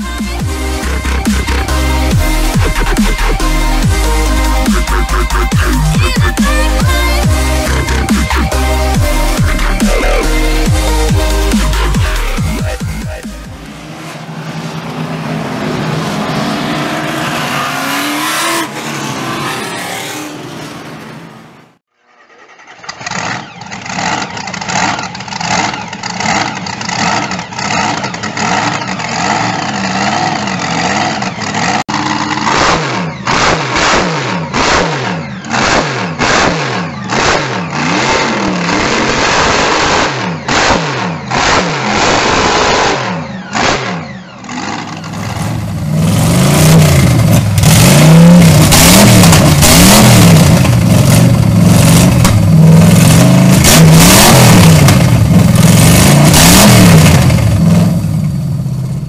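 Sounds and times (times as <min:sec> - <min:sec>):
car engine revving: 0:00.0 - 0:59.0
engine throttle blips: 0:00.0 - 0:59.0.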